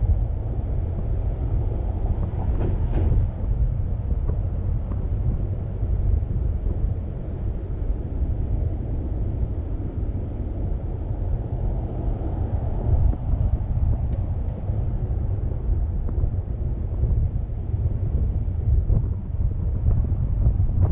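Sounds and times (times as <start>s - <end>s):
road noise rumble: 0.0s - 20.9s
wind on microphone: 0.0s - 20.9s.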